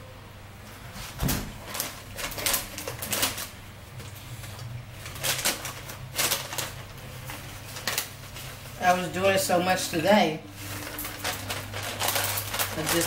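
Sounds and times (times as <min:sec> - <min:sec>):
steady low hum: 0:00.0 - 0:13.0
plastic snack bag crinkling: 0:01.2 - 0:13.0.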